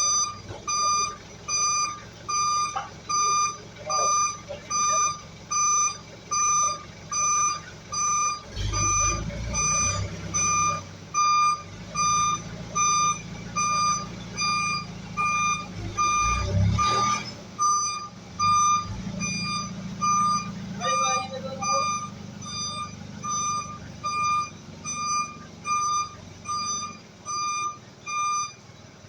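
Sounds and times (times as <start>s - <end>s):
reversing alarm beeping: 0.0s - 28.8s
low engine rumble: 0.0s - 29.0s.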